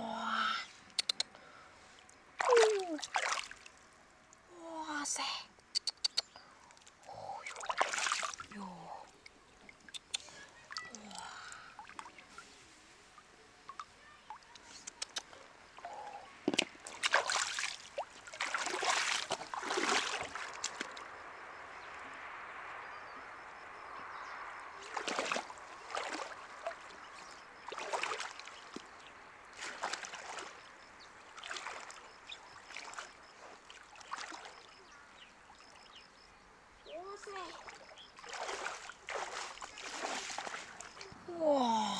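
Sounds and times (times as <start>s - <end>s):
water splashing and sloshing: 1.8s - 4.5s, 6.6s - 22.7s, 24.6s - 36.1s, 37.0s - 41.2s
trickle of flowing water: 1.8s - 5.7s, 6.4s - 21.1s, 24.8s - 36.1s, 37.1s - 41.2s.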